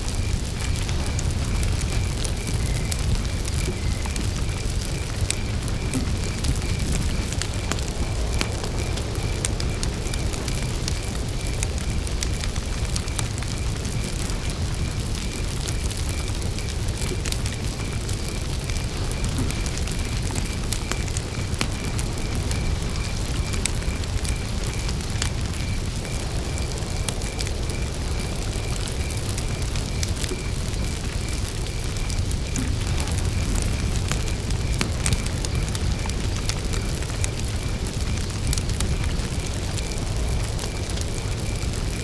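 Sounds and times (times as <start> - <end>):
campfire crackling and popping: 0.0 - 42.0
cricket chirping: 0.0 - 42.0.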